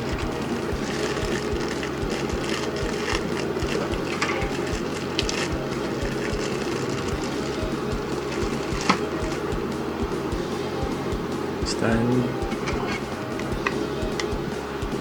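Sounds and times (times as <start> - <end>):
background music with driving beat: 0.0 - 15.0.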